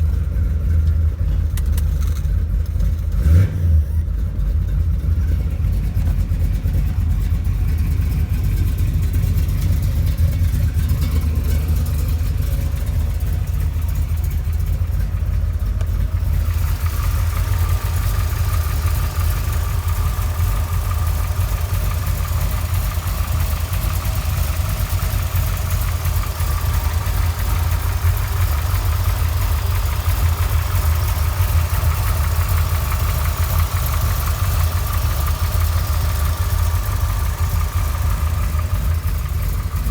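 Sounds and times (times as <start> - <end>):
engine idling with deep rumble: 0.0 - 39.9.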